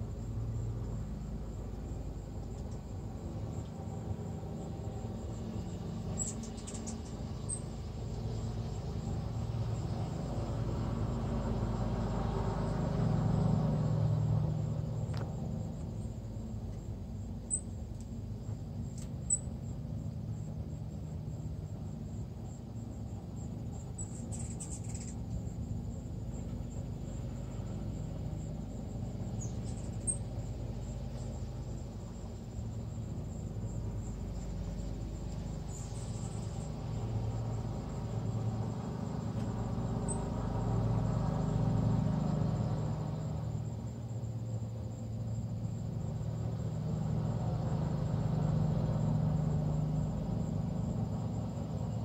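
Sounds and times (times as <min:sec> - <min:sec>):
hummingbirds chipping and chittering: 0:00.0 - 0:52.0.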